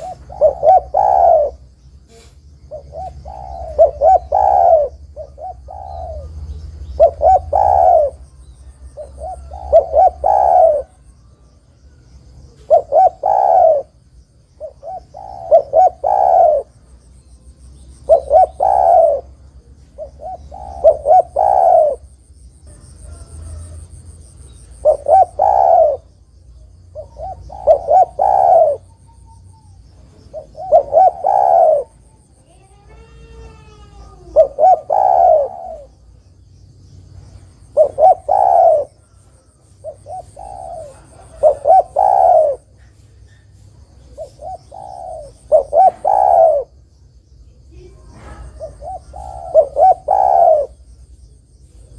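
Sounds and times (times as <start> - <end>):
dove cooing: 0.0 - 11.5, 12.4 - 14.0, 14.6 - 16.9, 18.0 - 36.2, 37.6 - 46.8, 47.7 - 51.0.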